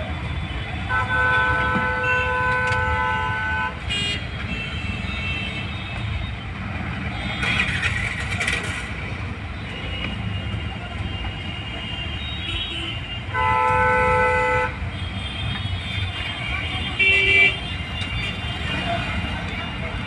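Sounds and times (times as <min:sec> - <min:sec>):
road traffic rumbling: 0:00.0 - 0:20.0.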